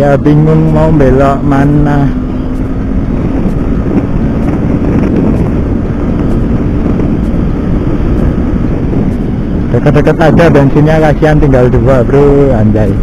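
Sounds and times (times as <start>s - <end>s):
motorcycle engine with loud exhaust: 0.0s - 13.0s
wind buffeting microphone: 0.0s - 13.0s.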